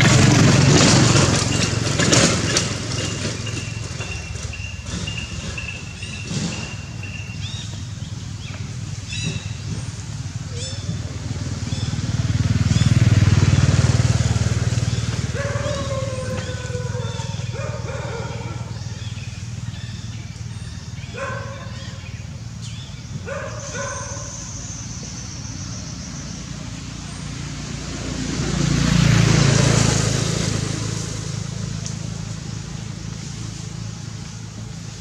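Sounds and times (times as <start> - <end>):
vehicle engine passing: 0.0 - 35.0.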